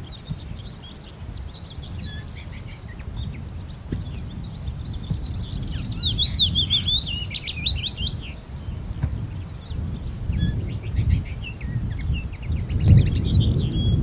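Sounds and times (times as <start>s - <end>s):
warbler singing whistled notes: 0.0s - 14.0s.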